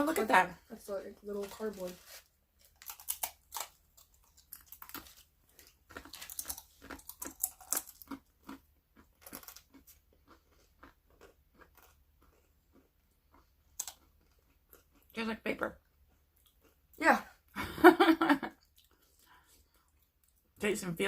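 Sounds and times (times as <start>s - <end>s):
person chewing crunchy crisps: 1.3s - 15.2s, 15.8s - 17.0s, 18.5s - 20.5s.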